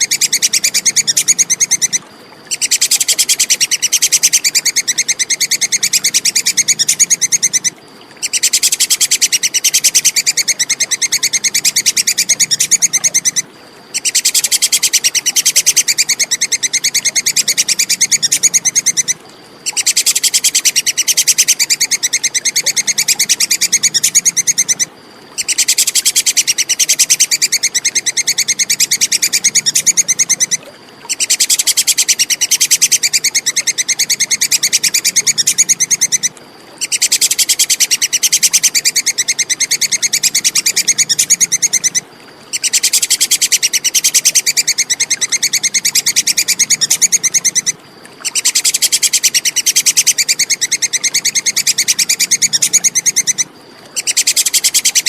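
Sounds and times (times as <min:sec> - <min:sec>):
squirrel chattering call: 0:00.0 - 0:55.0.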